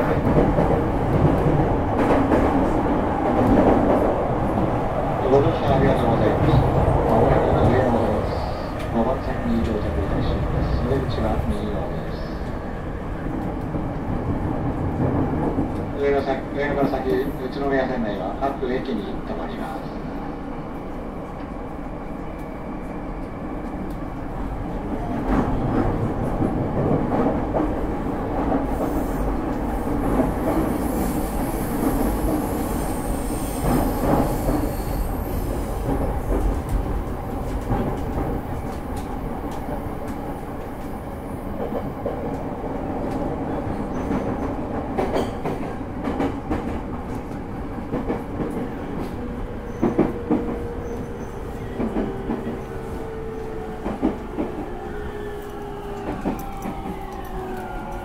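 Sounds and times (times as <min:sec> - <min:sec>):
train wheels rumbling and knocking: 0:00.0 - 0:18.3, 0:22.3 - 0:58.0.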